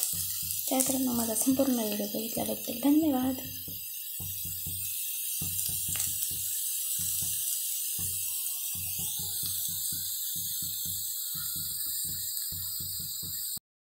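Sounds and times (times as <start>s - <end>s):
potatoes sizzling in a pan: 0.0s - 13.6s.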